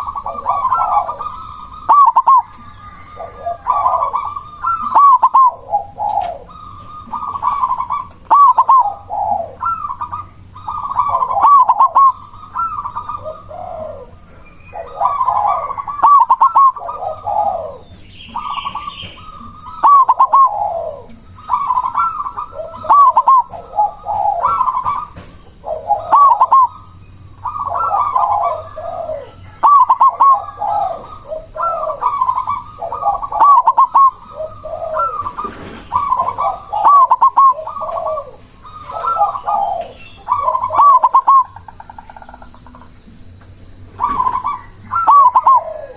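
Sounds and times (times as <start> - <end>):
dove cooing song: 0.0 - 45.9.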